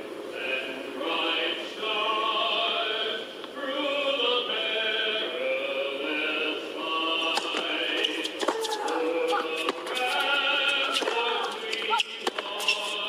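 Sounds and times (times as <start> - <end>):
man singing an anthem: 0.4 - 13.0.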